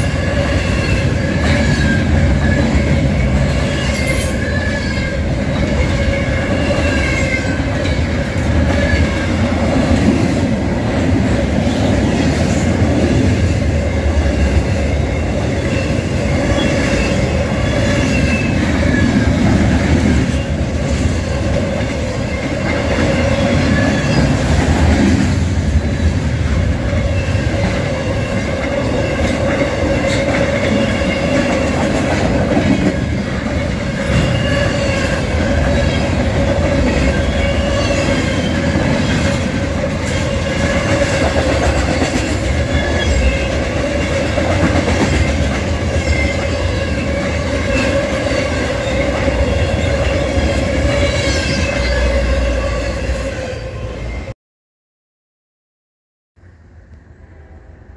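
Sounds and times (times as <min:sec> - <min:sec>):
train wheels rumbling on rail: 0:00.0 - 0:54.2.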